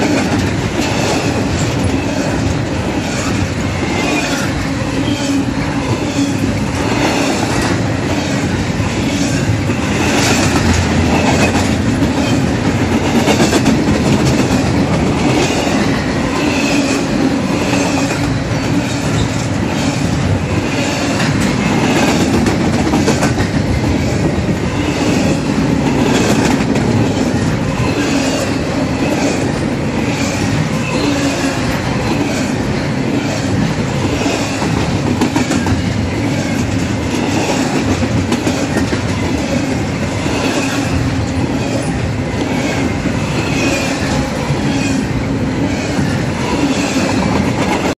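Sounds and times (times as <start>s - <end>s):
freight train wheels rumbling: 0.0s - 47.9s.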